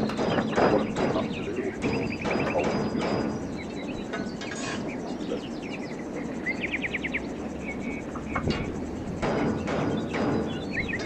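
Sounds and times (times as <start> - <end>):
small birds chirping and trilling: 0.0 - 11.0.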